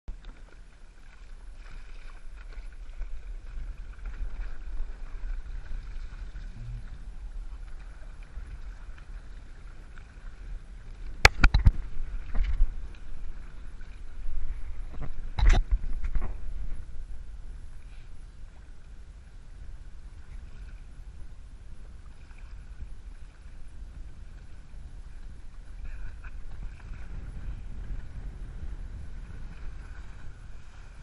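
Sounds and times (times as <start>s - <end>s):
water rushing past hull: 0.1s - 31.0s
wind rumbling on microphone: 0.1s - 31.0s.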